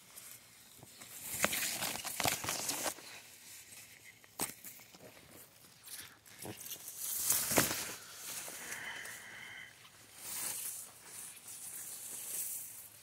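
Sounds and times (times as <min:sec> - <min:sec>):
leaves rustling against phone: 0:00.0 - 0:13.0.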